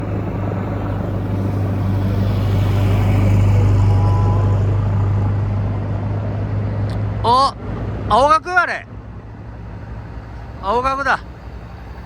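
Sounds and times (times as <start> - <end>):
vehicle engines humming: 0.0 - 12.0.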